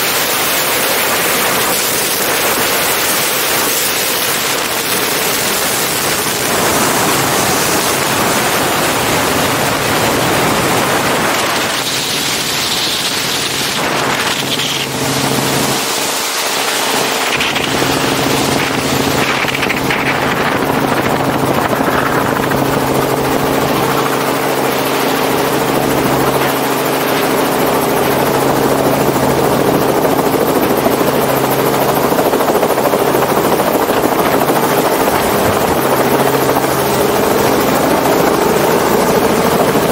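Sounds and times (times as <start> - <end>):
helicopter rotor and engine drone: 0.0 - 39.9
wind rush over microphone: 0.0 - 39.9.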